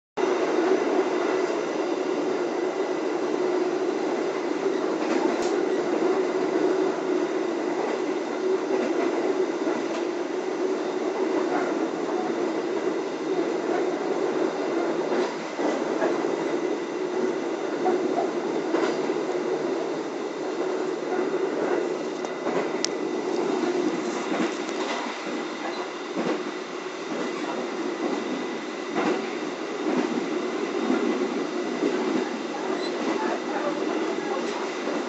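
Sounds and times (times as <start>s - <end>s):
train wheels rolling on rails: 0.2s - 35.0s.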